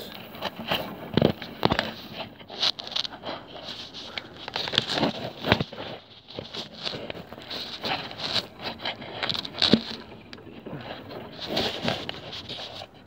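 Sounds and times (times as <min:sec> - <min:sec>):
footsteps crunching in snow: 0:00.0 - 0:13.0
jacket rustling: 0:00.0 - 0:13.0.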